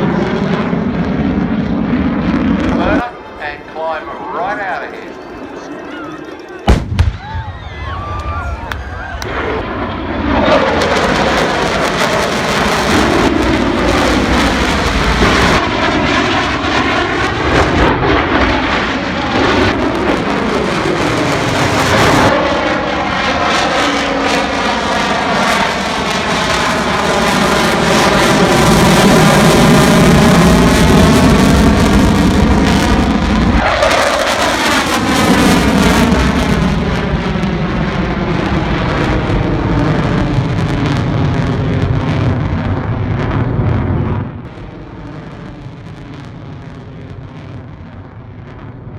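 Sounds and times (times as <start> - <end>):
jet aircraft flying past: 0.0 - 47.7.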